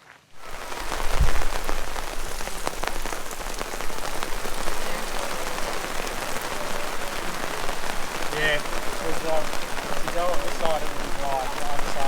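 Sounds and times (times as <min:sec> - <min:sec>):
steady rain falling: 0:00.0 - 0:12.0
raindrops tapping close by: 0:00.3 - 0:12.0.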